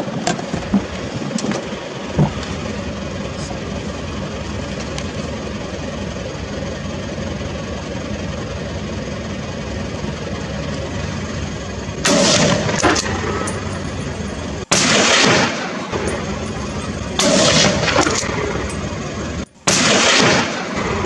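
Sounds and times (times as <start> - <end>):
vehicle engine idling: 0.0 - 14.7, 15.4 - 21.0.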